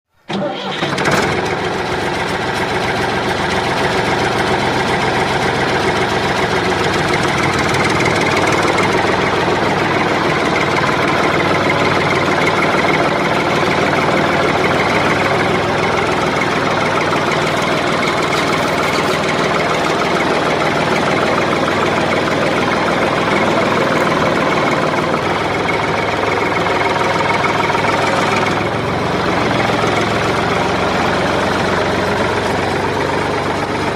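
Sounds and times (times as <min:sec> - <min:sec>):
model tractor engine idling: 0:00.3 - 0:33.9.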